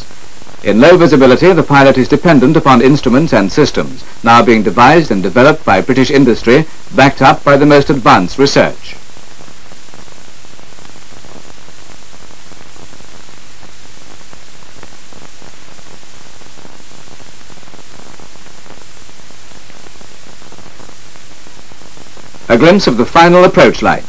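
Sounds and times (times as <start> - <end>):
steady hiss with faint crackles: 0.0 - 24.0.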